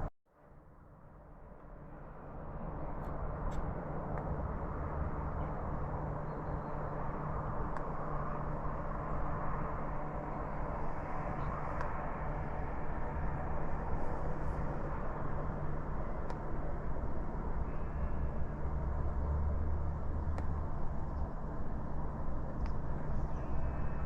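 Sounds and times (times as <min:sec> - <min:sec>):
distant traffic roar: 0:00.8 - 0:24.0.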